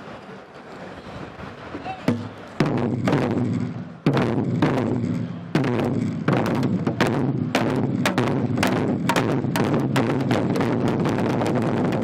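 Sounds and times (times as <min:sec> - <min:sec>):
barrel drum strokes: 0:01.8 - 0:12.0.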